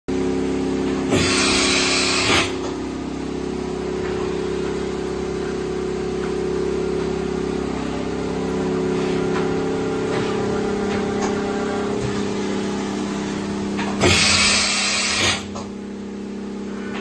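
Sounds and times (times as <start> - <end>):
machine hum: 0.1 - 17.0.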